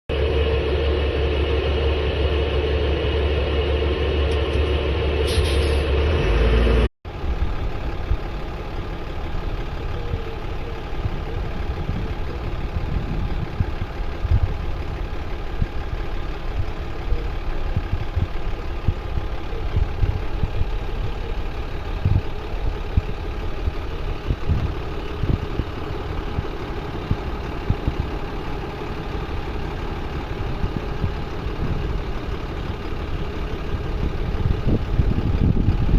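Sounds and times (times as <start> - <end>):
fire truck engine running: 0.1 - 35.9.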